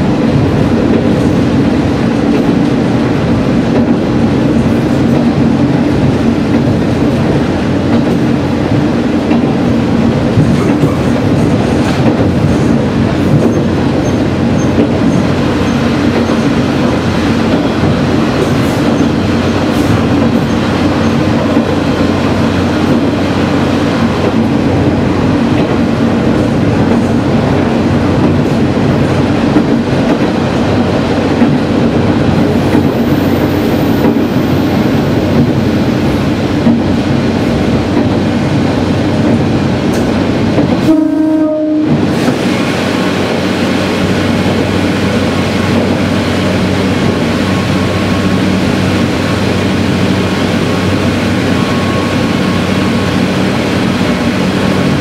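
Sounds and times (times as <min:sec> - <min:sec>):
diesel railcar engine drone: 0:00.0 - 0:55.0
wheels rumbling on rails: 0:00.0 - 0:55.0.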